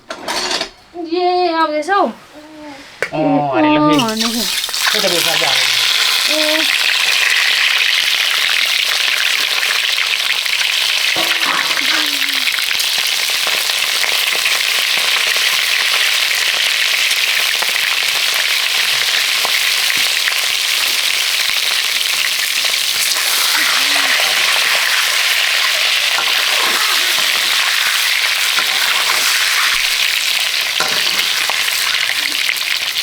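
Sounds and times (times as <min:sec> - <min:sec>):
food sizzling in hot oil: 0:03.9 - 0:33.0.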